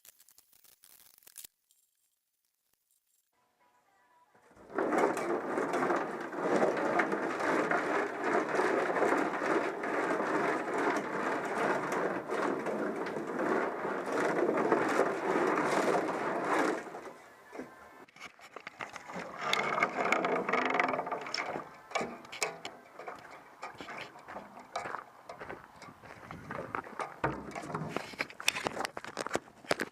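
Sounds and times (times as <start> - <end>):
nuts and bolts rattling in metal tank: 4.5 - 29.8.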